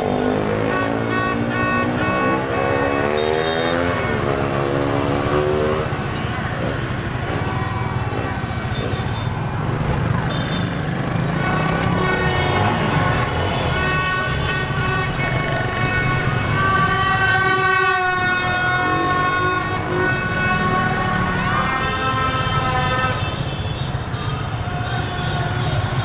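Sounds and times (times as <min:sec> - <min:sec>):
horns honking: 0:00.0 - 0:09.6, 0:10.2 - 0:26.0
crowd of motorbikes running: 0:00.0 - 0:26.0.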